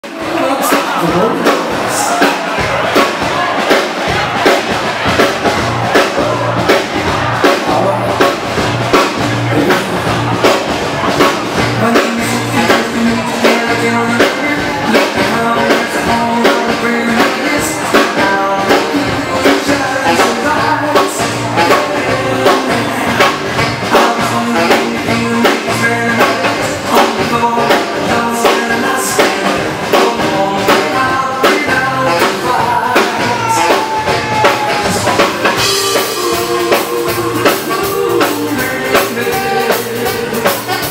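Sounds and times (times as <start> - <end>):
person singing: 0.0 - 5.1, 5.7 - 40.9
live dance band playing: 0.0 - 40.9
steady drum beat: 0.0 - 40.9.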